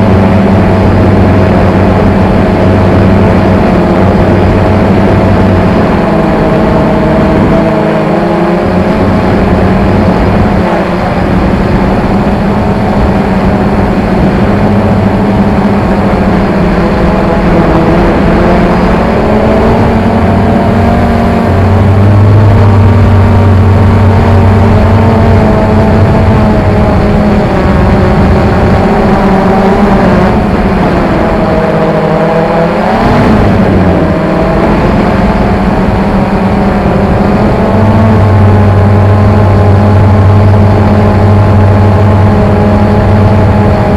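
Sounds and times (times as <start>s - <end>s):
drone motors droning hum: 0.0s - 43.9s.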